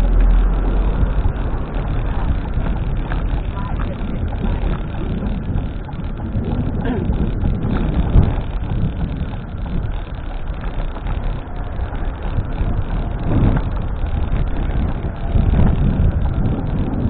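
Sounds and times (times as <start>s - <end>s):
vehicles passing: 0.0s - 17.0s
wind on microphone: 0.0s - 17.0s.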